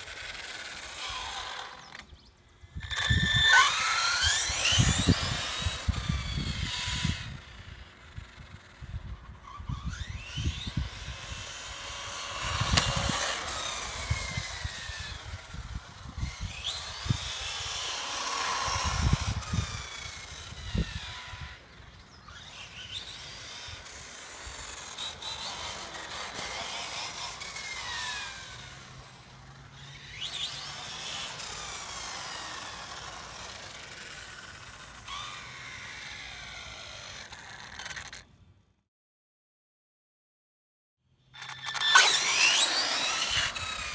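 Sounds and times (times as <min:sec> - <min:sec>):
electric motor whining: 0:02.8 - 0:38.2, 0:41.4 - 0:43.9.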